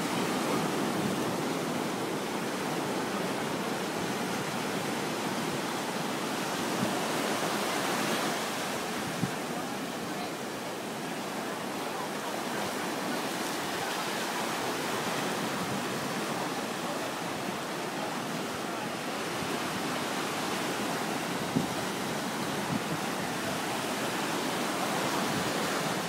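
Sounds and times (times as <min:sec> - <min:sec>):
surf washing up beach: 0:00.0 - 0:26.0.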